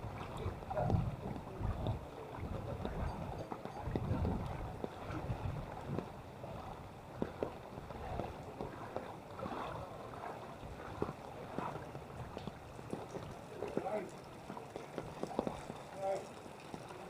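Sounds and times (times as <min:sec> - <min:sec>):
footsteps sloshing through water: 0:00.0 - 0:17.0.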